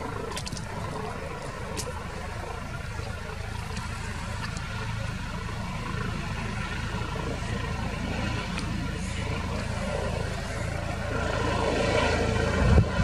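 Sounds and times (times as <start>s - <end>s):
helicopter rotor thrum: 0.0s - 13.0s
turbine hum: 0.0s - 13.0s.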